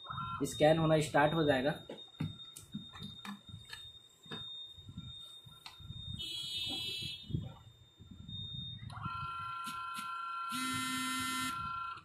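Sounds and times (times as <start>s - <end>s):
high buzzing scanner tone: 0.0s - 12.0s
scanner high whine: 0.0s - 12.0s.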